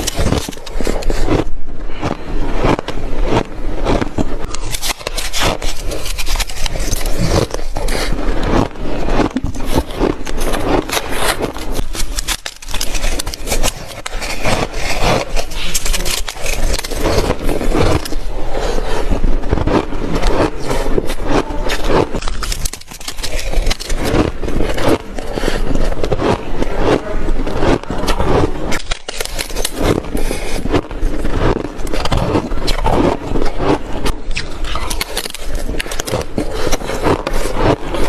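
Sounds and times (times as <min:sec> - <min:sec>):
shaved ice being chewed: 0:00.0 - 0:38.0.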